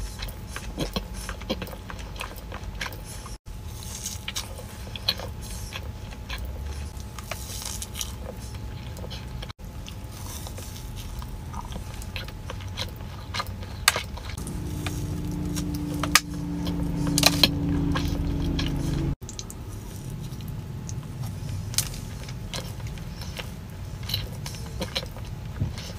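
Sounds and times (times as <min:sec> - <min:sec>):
chewing cookie: 0:00.0 - 0:25.9
steady low hum: 0:00.0 - 0:25.9.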